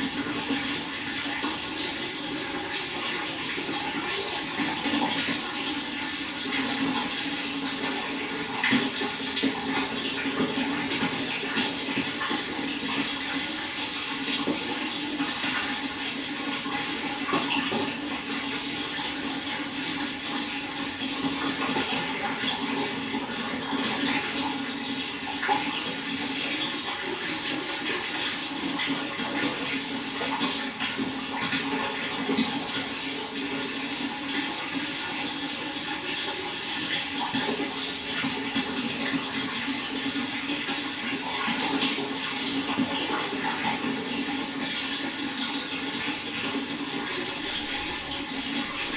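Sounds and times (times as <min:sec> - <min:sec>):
running water splashing: 0:00.0 - 0:48.9.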